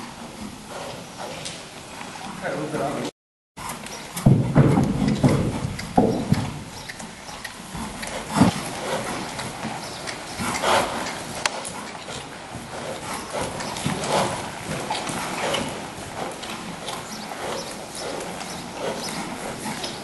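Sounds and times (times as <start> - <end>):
horse hoofbeats on sand: 3.6 - 20.0.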